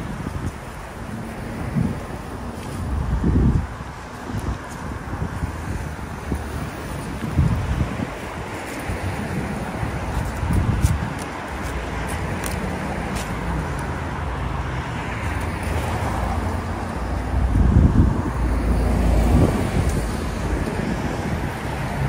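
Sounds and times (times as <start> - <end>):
city road traffic: 0.0 - 22.0.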